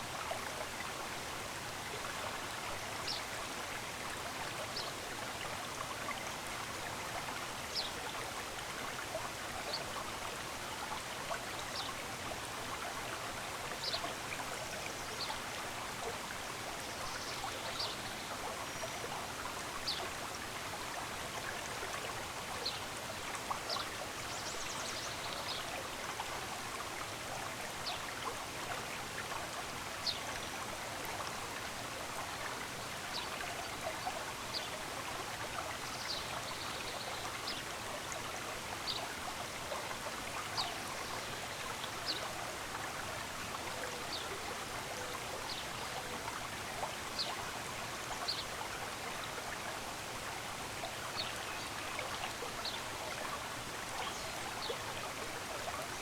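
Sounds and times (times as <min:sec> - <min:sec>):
stream running water: 0:00.0 - 0:56.0.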